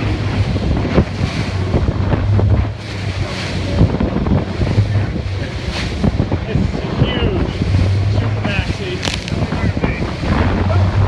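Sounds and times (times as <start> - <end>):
boat engine humming: 0.0 - 11.0
water splashing against hull: 0.0 - 11.0
wind buffeting microphone: 0.0 - 11.0.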